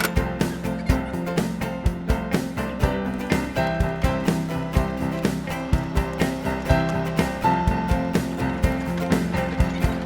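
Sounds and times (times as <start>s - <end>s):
upbeat country music with guitar: 0.0s - 10.0s.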